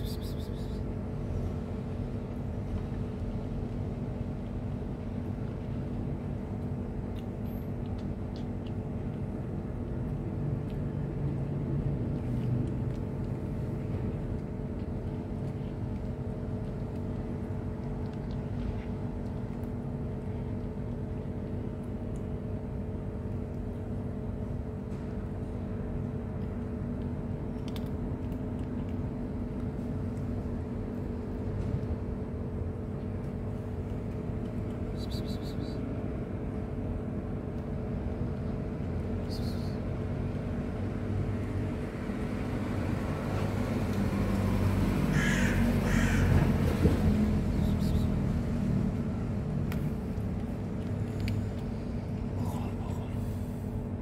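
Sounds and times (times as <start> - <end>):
machine hum and rumble: 0.0 - 54.0.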